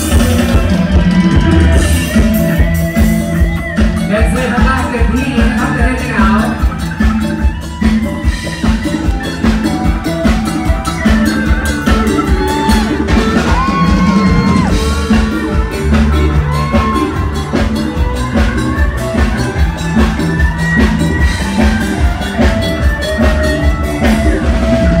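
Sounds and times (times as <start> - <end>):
bass: 0.0 - 25.0
heavy drum beat: 0.0 - 25.0.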